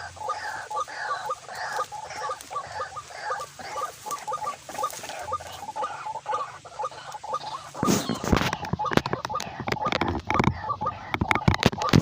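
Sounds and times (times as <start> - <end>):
waterhen calling: 0.0 - 12.0.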